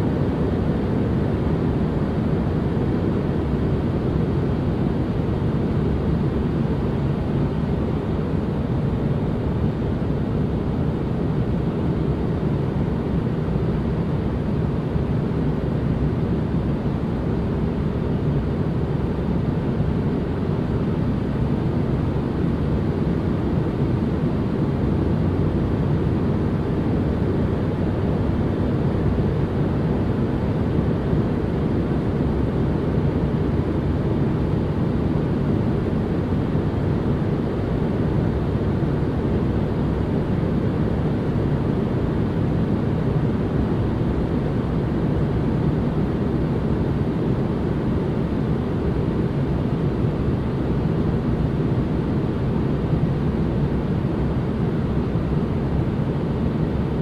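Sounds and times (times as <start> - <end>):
deep rumbling ambient noise: 0.0 - 57.0.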